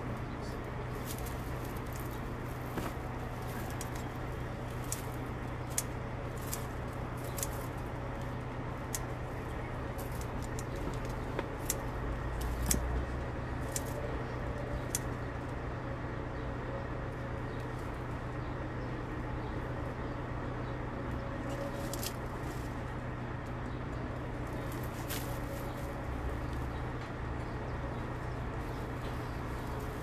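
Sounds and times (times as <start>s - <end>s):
twigs and leaves crackling: 0.0s - 15.8s, 17.0s - 19.7s, 21.0s - 30.0s
steady low hum: 0.0s - 30.0s.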